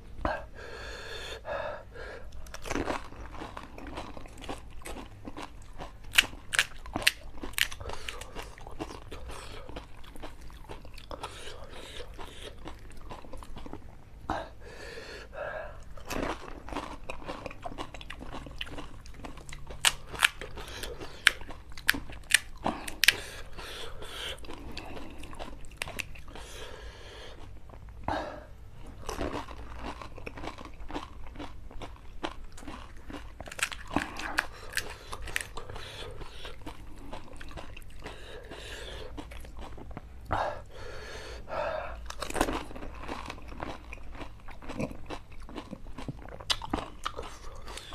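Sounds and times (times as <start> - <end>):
crunching crisp food: 2.3 - 13.9, 16.0 - 26.6, 28.8 - 40.0, 42.0 - 47.9
chewing: 2.3 - 14.0, 15.7 - 28.0, 28.8 - 40.4, 42.0 - 47.9.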